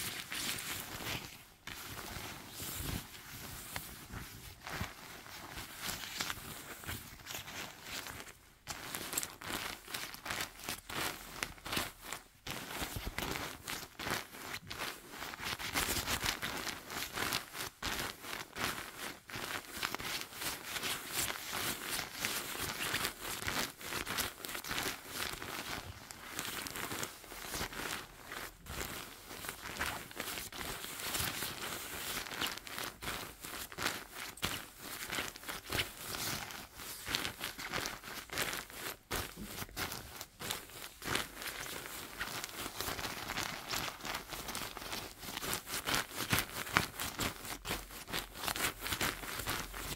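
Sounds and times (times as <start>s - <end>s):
jacket fabric crinkling and rustling: 0.0s - 49.9s.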